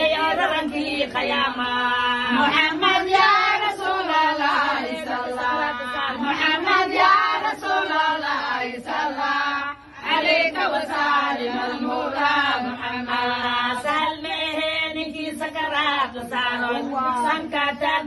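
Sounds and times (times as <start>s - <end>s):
women chanting unaccompanied: 0.0s - 18.0s.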